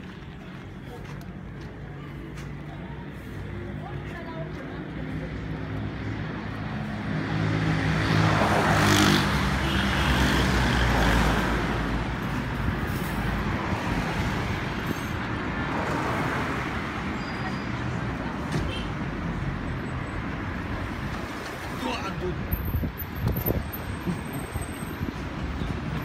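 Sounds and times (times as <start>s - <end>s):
steady traffic noise: 0.0s - 26.0s.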